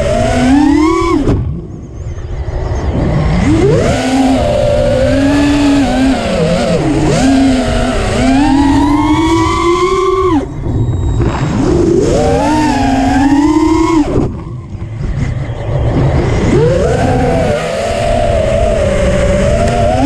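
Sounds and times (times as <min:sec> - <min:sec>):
drone propellers whining: 0:00.0 - 0:20.0
wind on microphone: 0:00.0 - 0:20.0.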